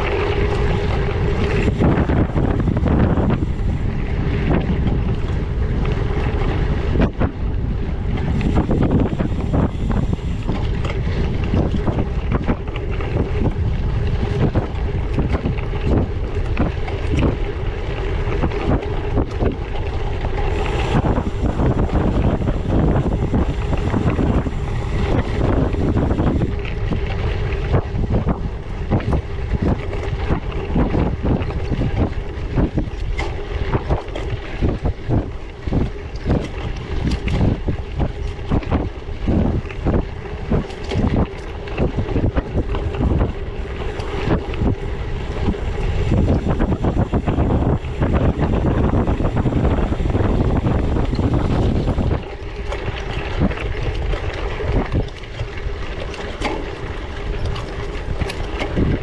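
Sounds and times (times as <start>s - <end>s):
bike rattling and knocking: 0.0s - 59.0s
wind buffeting microphone: 0.0s - 59.0s.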